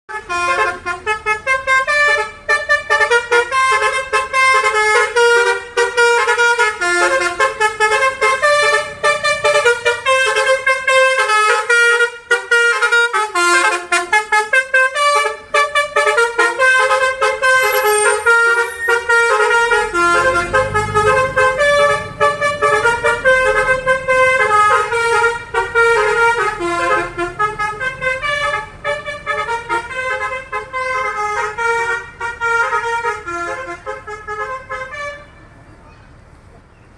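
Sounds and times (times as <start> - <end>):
melody horn playing a tune: 0.1 - 35.2.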